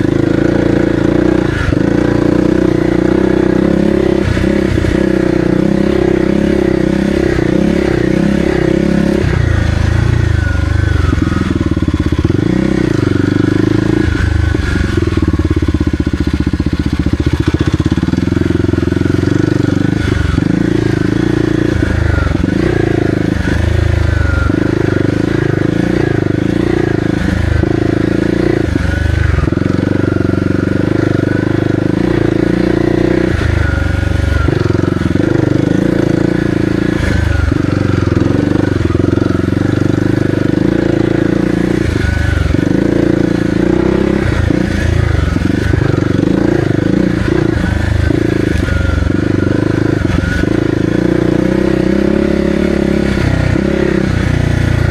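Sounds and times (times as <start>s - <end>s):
motorcycle engine under load: 0.0s - 54.9s.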